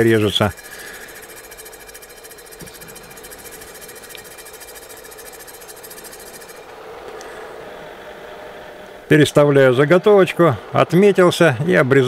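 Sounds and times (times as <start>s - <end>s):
saw blade cutting metal whir: 0.0s - 12.0s.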